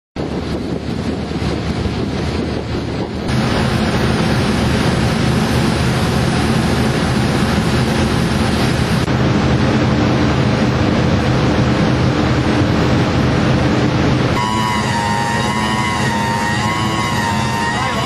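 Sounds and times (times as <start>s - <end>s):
boat engine drone: 0.2s - 18.0s
rush of open sea: 0.2s - 18.0s
wind buffeting microphone: 0.2s - 18.0s.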